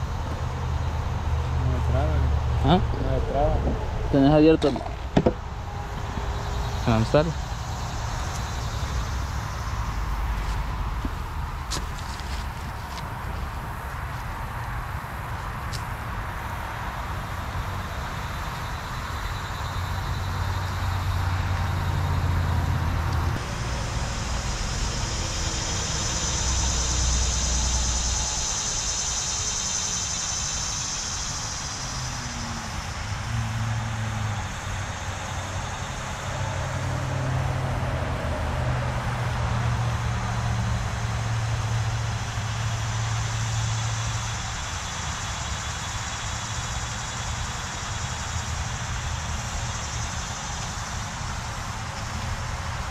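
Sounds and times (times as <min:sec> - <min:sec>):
high steady hiss: 0:00.0 - 0:37.9, 0:38.7 - 0:52.9
road traffic rumble: 0:00.0 - 0:52.9.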